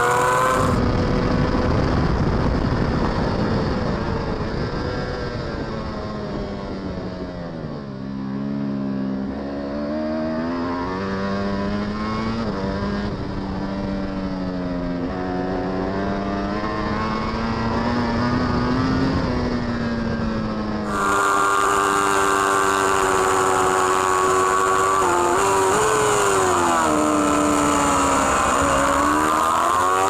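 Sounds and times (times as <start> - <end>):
motorcycle engine at high revs: 0.0 - 30.0.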